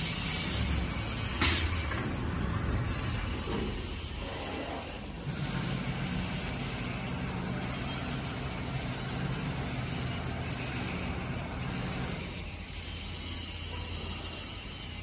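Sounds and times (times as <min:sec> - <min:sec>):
sewing machine mechanical hum: 0:00.0 - 0:15.0.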